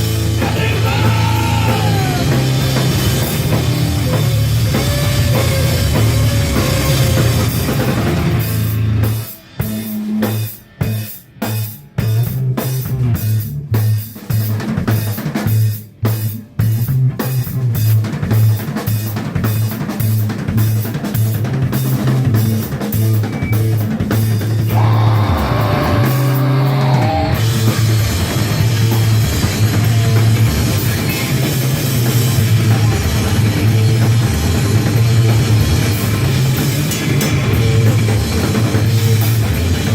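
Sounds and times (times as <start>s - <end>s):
heavy bass: 0.0s - 11.0s, 11.8s - 18.1s, 24.2s - 39.9s
drum kit: 0.0s - 39.9s
live rock band playing: 0.0s - 39.9s.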